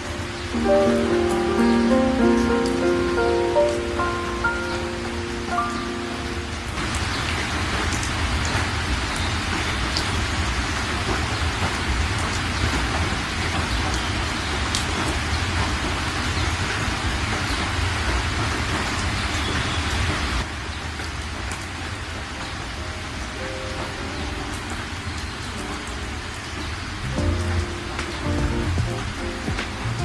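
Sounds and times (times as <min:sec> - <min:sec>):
rain hissing: 0:00.0 - 0:30.0.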